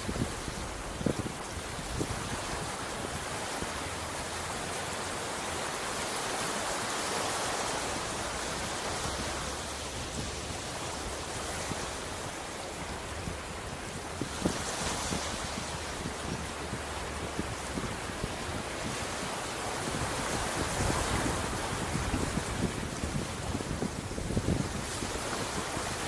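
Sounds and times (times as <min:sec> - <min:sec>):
ocean surf washing: 0:00.0 - 0:26.0.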